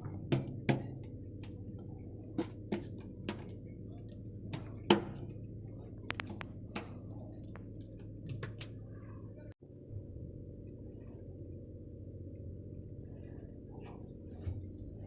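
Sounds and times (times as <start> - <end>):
boat engine hum: 0.0 - 15.0.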